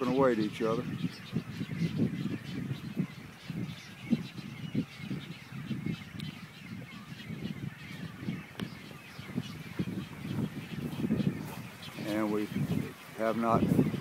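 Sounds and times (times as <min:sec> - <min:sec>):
waterbirds calling: 0:00.0 - 0:14.0.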